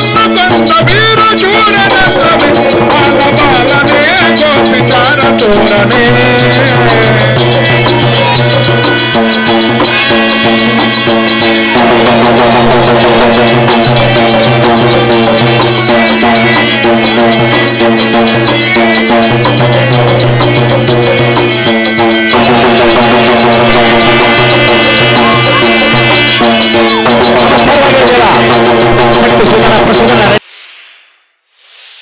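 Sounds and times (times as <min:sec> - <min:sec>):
rattling percussion: 0:00.0 - 0:30.9
quick drum strokes: 0:00.0 - 0:31.0.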